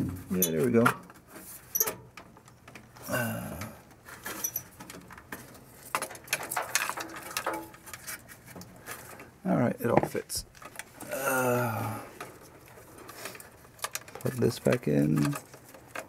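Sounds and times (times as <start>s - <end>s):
wires rustling: 0.0s - 16.0s.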